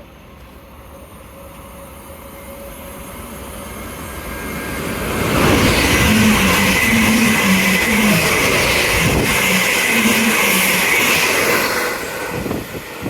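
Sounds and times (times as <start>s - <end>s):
train wheel and running noise: 0.0s - 13.0s.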